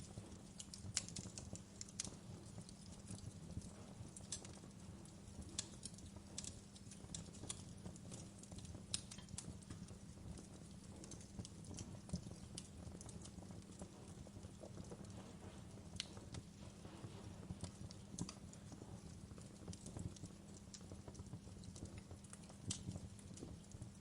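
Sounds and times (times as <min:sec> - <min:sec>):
fire crackling and popping: 0:00.0 - 0:24.0
low steady rumble: 0:00.0 - 0:24.0.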